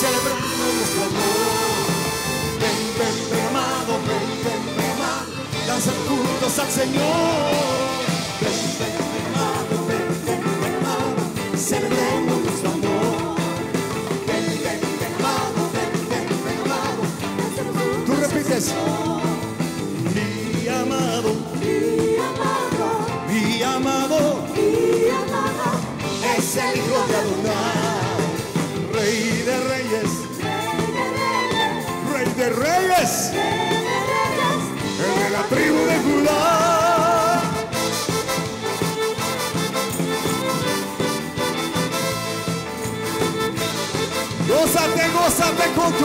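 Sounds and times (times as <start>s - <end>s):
live band playing: 0.0s - 46.0s
people singing: 0.0s - 46.0s.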